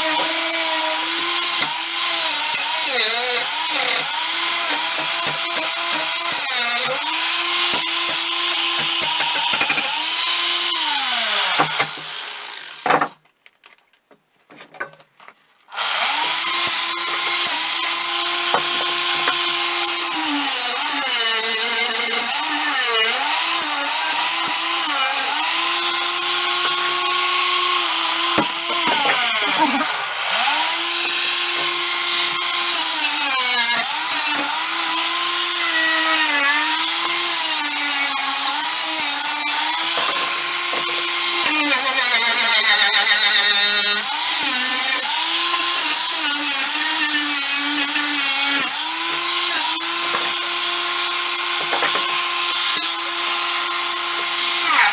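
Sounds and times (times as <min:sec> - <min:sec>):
power tool motor whining: 0:00.0 - 0:12.9, 0:15.8 - 0:54.9.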